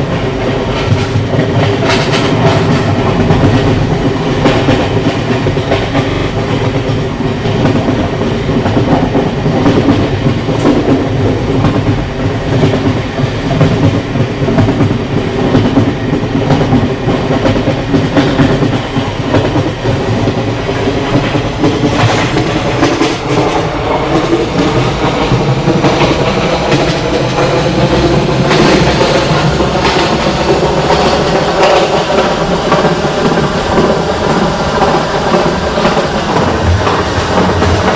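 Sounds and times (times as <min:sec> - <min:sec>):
train rumbling by: 0:00.0 - 0:37.9.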